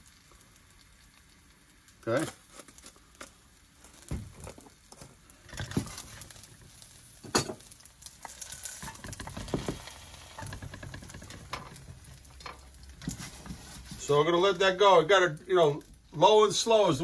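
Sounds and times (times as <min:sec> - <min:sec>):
butter sizzling in skillet: 0:00.0 - 0:17.0.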